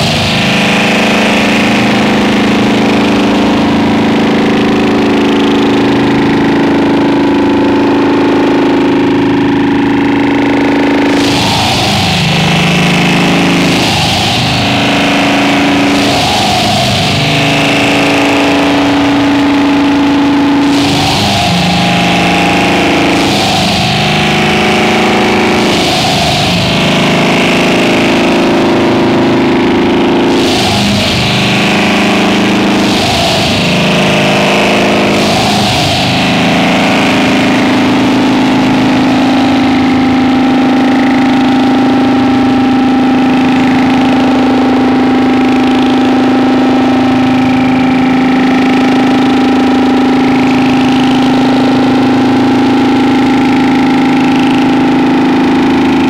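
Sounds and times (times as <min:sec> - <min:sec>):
bursts of harsh noise: 0:00.0 - 0:56.0
loud distorted noise drone: 0:00.0 - 0:56.0.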